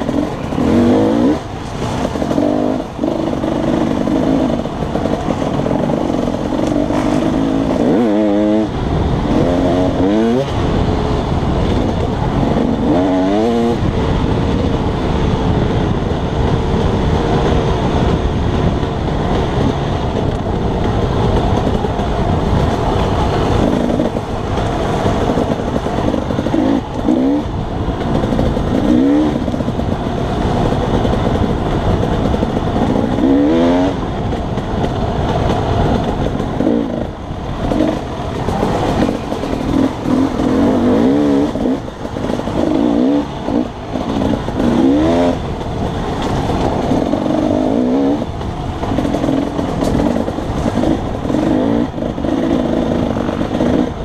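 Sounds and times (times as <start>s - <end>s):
dirt bike engine revving: 0.0s - 15.4s, 16.3s - 54.0s.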